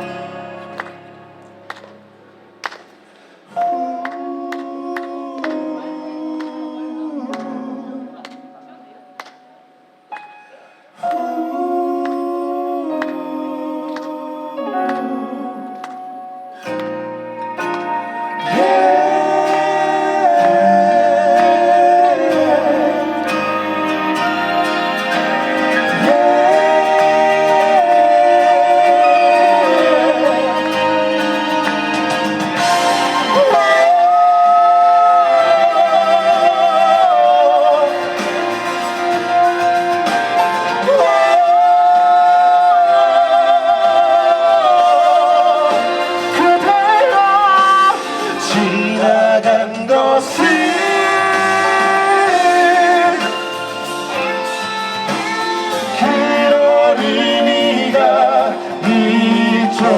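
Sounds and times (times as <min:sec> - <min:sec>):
guitar accompaniment: 0:00.0 - 0:59.9
person singing with vibrato: 0:03.3 - 0:09.1, 0:10.3 - 0:59.9.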